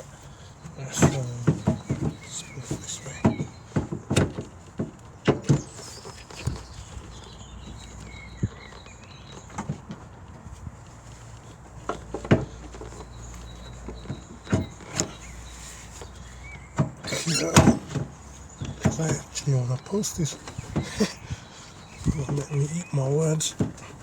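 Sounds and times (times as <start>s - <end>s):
metallic knocks and clunks: 0.6s - 8.8s, 11.8s - 24.0s.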